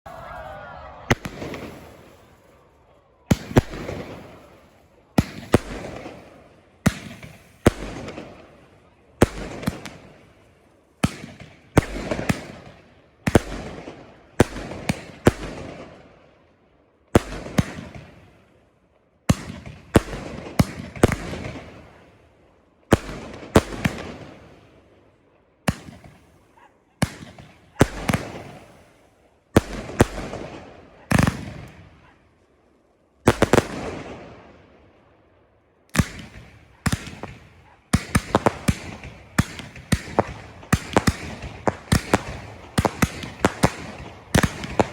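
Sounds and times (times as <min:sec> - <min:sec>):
fireworks bursting with sharp bangs: 0:00.0 - 0:44.9.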